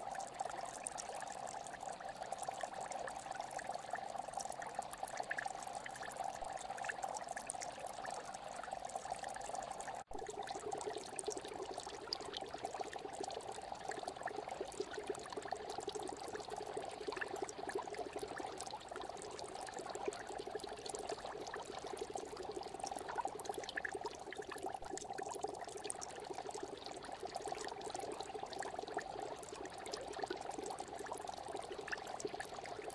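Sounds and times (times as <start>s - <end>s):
aquarium water bubbling: 0.0s - 32.9s.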